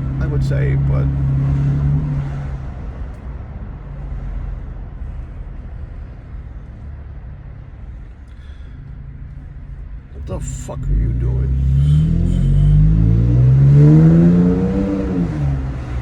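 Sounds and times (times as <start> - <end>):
truck exhaust drone while driving: 0.0 - 16.0.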